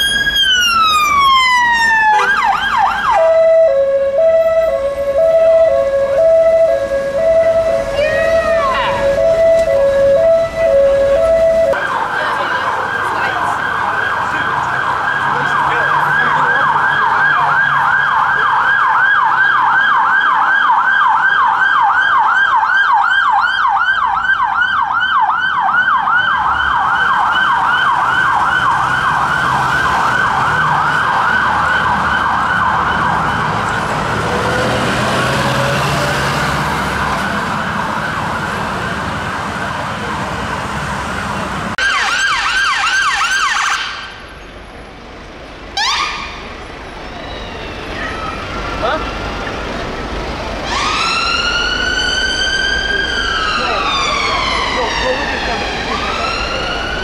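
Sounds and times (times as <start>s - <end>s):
siren yelping: 0.0s - 34.6s, 41.8s - 44.2s, 45.8s - 49.5s, 50.6s - 57.0s.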